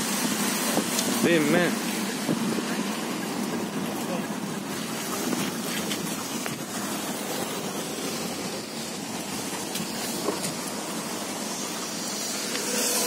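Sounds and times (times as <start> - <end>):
car engine running: 0.0 - 13.0
tyres rolling on wet road: 0.0 - 13.0.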